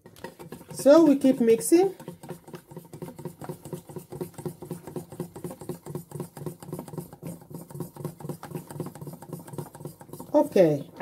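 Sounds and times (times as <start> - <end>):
batter beaten in glass bowl: 0.0 - 11.0.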